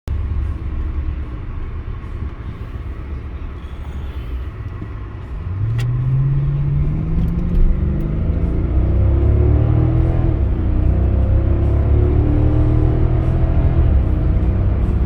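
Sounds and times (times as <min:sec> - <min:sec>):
car engine accelerating: 0:00.1 - 0:15.0.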